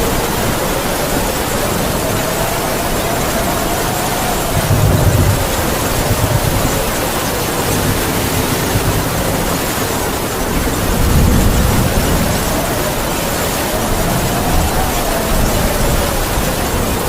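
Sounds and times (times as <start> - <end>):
heavy rain falling: 0.0 - 17.0
howling wind gusting: 0.0 - 17.0.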